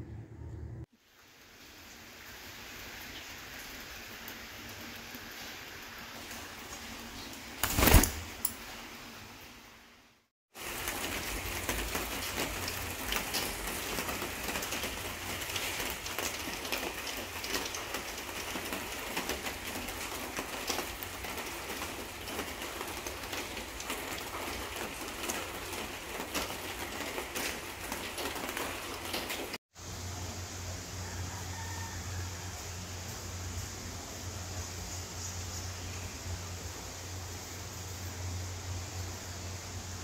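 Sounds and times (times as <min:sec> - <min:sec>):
steady rain falling: 0:00.9 - 0:40.0.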